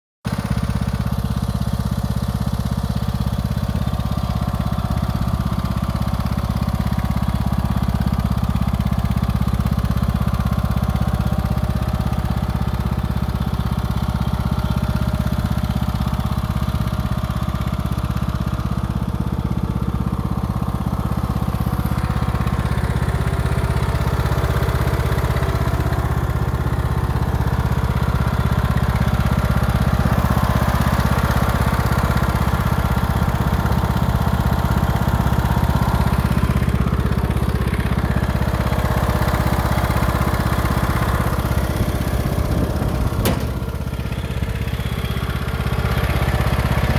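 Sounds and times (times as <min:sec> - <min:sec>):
lawn mower engine running: 0:00.2 - 0:46.9.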